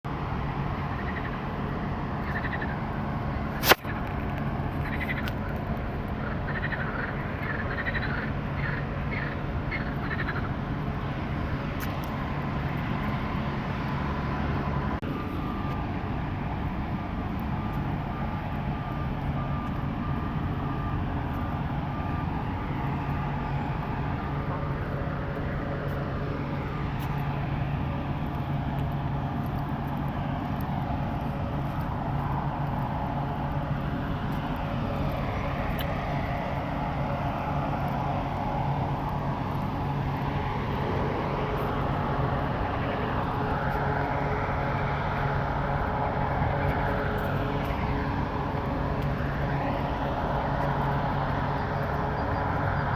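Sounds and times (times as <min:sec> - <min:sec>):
low mechanical drone: 0:00.1 - 0:52.9.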